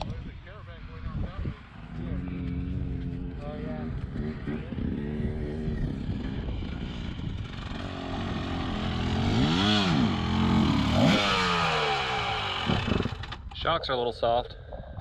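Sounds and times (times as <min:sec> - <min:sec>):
off-road vehicle engine revving: 0:01.2 - 0:13.5.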